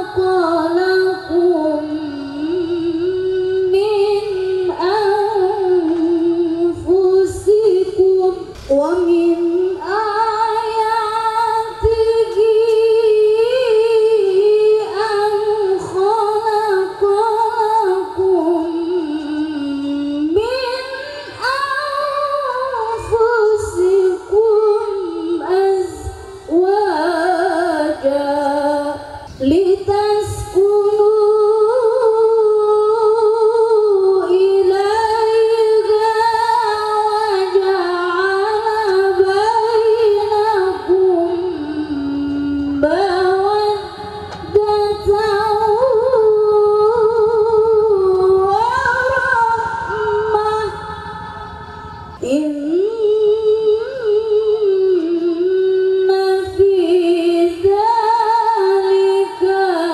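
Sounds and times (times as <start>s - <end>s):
woman chanting recitation: 0.0s - 59.9s.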